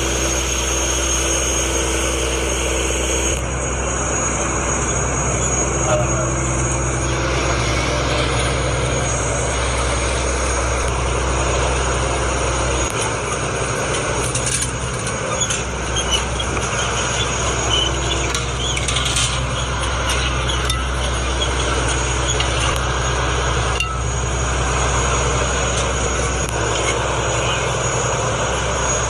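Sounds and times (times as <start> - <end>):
small engine droning: 0.0 - 29.0.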